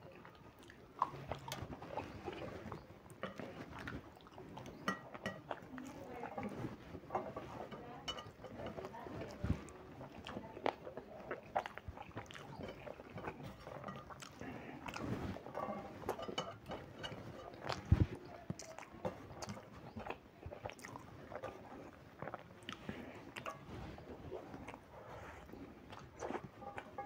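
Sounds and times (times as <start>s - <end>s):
chewing and mouth clicks: 0.0s - 27.0s
fingers gathering rice on a steel plate: 1.0s - 22.0s, 22.7s - 27.0s.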